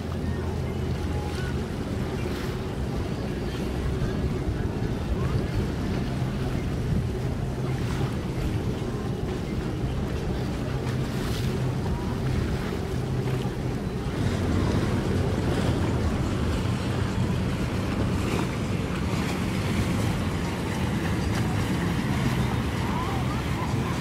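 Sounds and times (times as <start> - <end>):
boat engine idling: 0.0 - 24.0
water sloshing: 0.0 - 24.0
wind buffeting microphone: 0.0 - 24.0.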